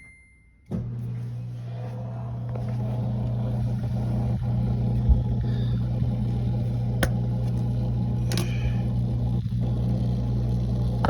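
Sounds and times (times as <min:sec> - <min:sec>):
dishwasher humming: 0:00.0 - 0:11.0.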